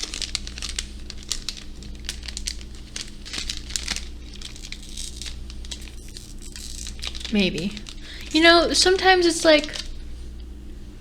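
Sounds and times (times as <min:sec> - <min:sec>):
candy wrapper crinkling: 0:00.0 - 0:10.1.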